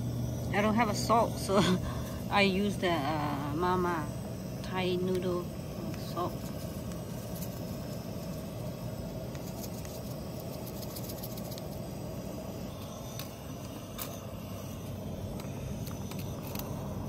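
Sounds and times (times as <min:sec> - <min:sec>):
gas stove burner rushing: 0:00.0 - 0:17.0.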